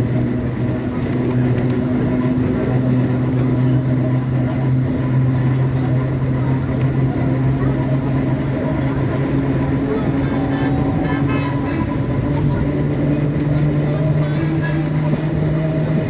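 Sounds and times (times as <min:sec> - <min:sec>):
subway train running: 0:00.0 - 0:16.0.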